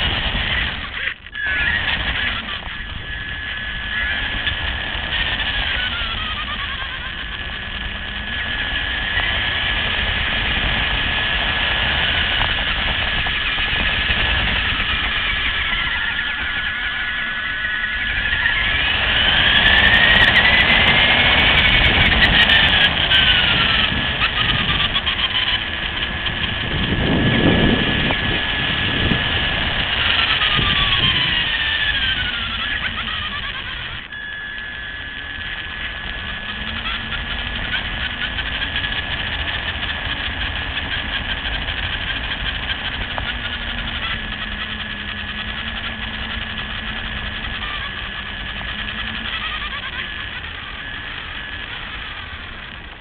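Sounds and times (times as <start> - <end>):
rc car electric motor whining: 0.0 - 53.0.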